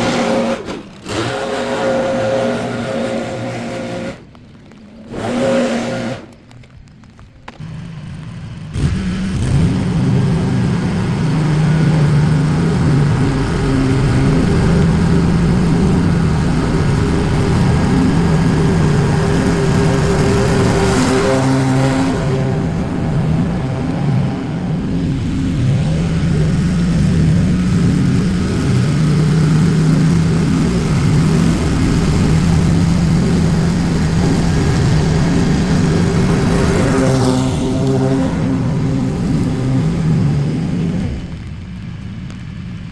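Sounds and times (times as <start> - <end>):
small gasoline engine running: 0.0 - 4.4, 5.0 - 6.4, 7.5 - 42.4.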